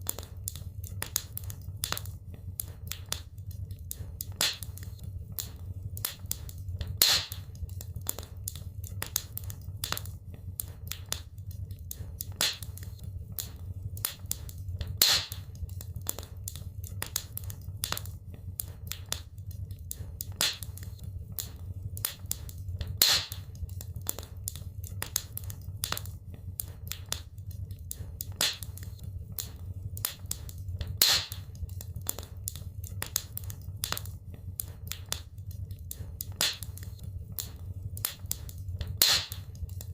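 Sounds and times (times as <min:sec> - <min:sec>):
wood fire crackling: 0:00.0 - 0:39.9
loud fire pops: 0:03.9 - 0:11.3, 0:11.9 - 0:19.3, 0:19.9 - 0:27.3, 0:27.9 - 0:39.9.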